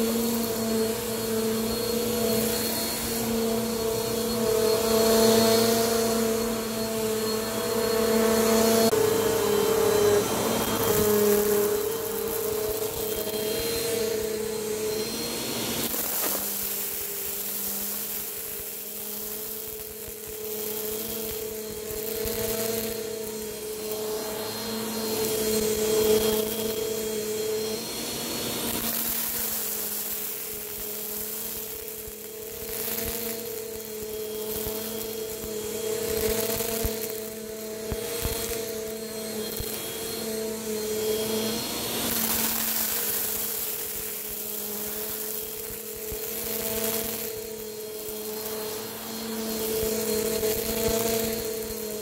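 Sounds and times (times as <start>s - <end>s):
vacuum cleaner running: 0.0s - 52.0s.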